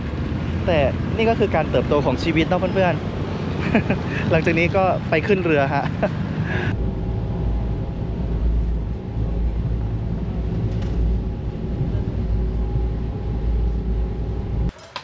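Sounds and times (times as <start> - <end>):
low engine rumble: 0.0 - 14.8.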